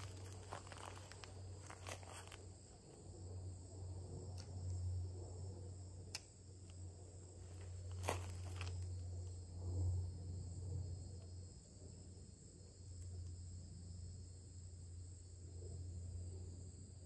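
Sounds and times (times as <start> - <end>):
insect chorus: 0.0 - 17.0
low steady hum: 0.0 - 17.0.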